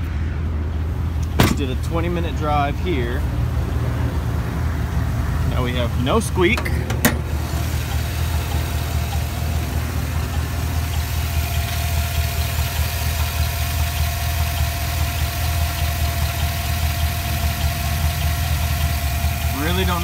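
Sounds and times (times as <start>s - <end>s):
car engine idling: 0.0s - 20.0s
engine ticking: 0.8s - 20.0s.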